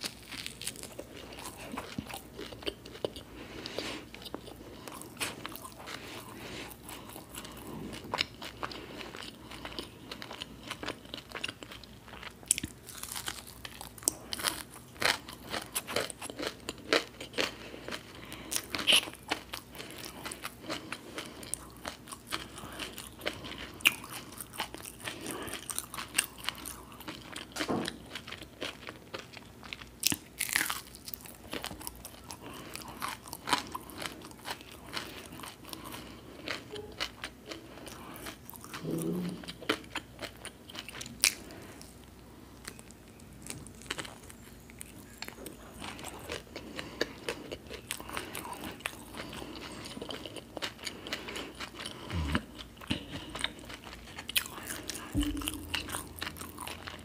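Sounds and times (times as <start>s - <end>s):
crunchy food bites: 4.1s - 37.3s, 42.6s - 57.0s.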